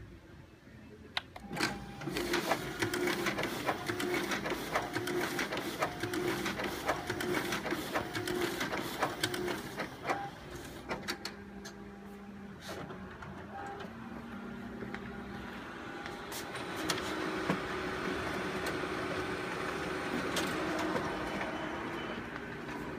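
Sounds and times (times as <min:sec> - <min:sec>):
copier running: 0:01.4 - 0:22.9.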